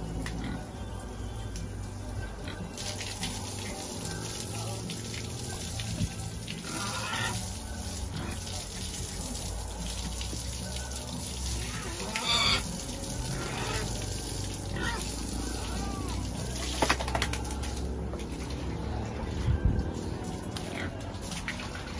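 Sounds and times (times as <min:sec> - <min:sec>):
hose water spraying and splashing: 0:02.7 - 0:21.9.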